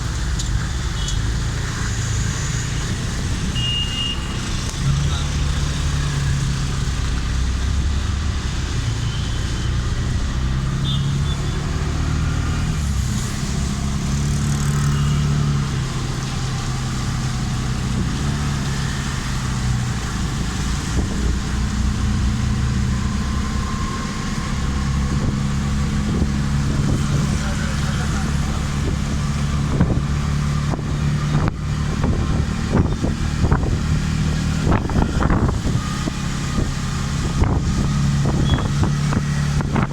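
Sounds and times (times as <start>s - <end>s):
road noise: 0.0s - 39.9s
vehicle engines humming: 0.0s - 39.9s.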